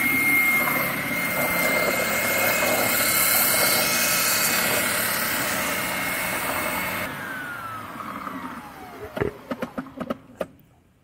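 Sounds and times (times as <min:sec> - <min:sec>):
motor spinning down: 0:00.0 - 0:10.3
spindle sander whining: 0:00.0 - 0:10.5.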